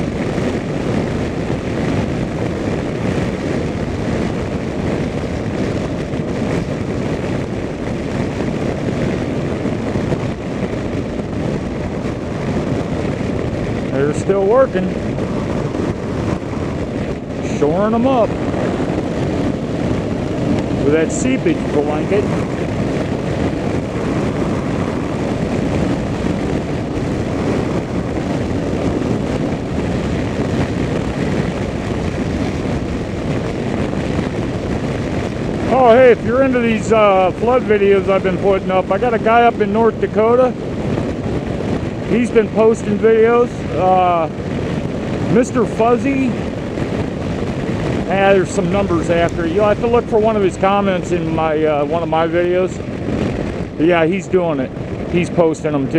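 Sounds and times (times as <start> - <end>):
motorcycle engine drone: 0.0 - 55.9
vehicle cruising on highway: 0.0 - 55.9
wind buffeting microphone: 0.0 - 55.9.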